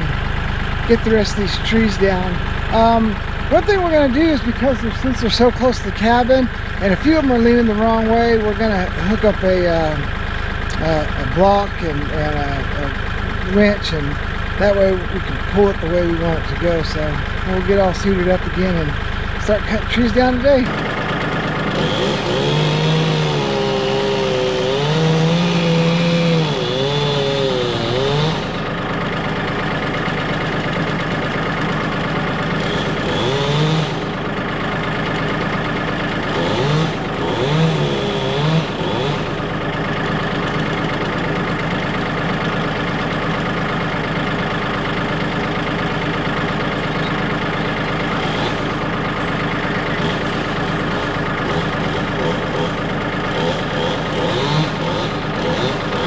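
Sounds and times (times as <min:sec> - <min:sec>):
chainsaw cutting a tree trunk: 0:00.0 - 0:56.0.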